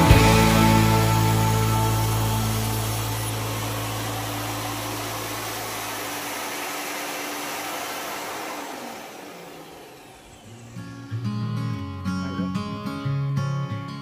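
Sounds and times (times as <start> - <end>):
vacuum dust extractor whirring: 0.0 - 12.7
table saw motor humming: 0.0 - 12.8.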